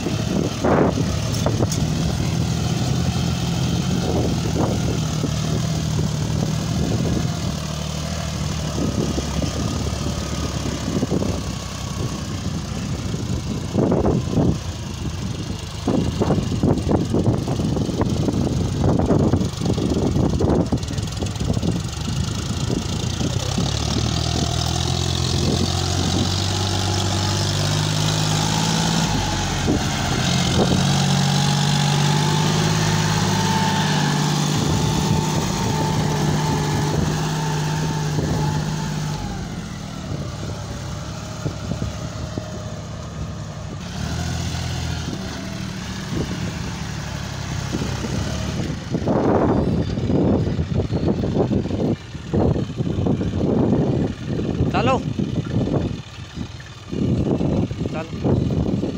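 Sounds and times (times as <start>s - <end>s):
tractor diesel engine under load: 0.0s - 58.9s.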